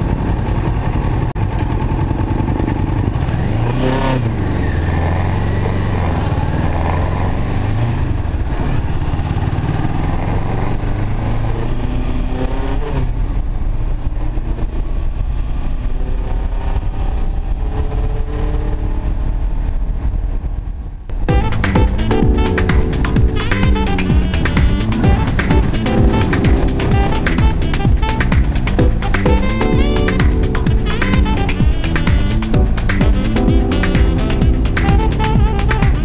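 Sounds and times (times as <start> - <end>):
motorcycle engine accelerating: 0.0 - 20.5, 21.1 - 36.0.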